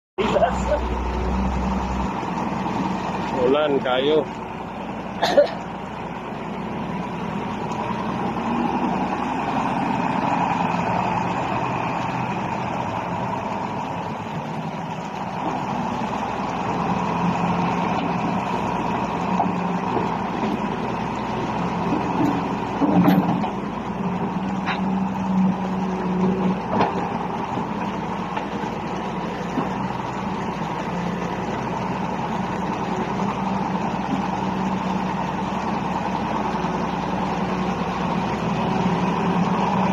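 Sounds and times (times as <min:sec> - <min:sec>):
excavator diesel engine running: 0:00.2 - 0:39.9.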